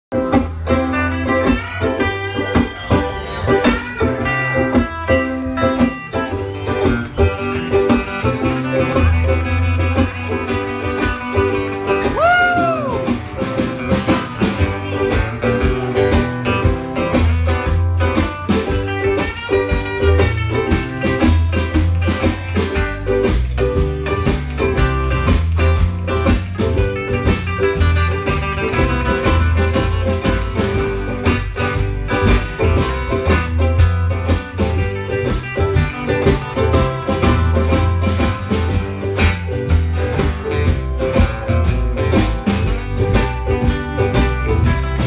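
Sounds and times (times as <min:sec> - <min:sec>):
drums: 0:00.0 - 0:45.0
upright bass: 0:00.0 - 0:45.0
live band music: 0:00.1 - 0:45.0
strummed acoustic guitar: 0:00.1 - 0:45.0
ukulele: 0:00.1 - 0:45.0.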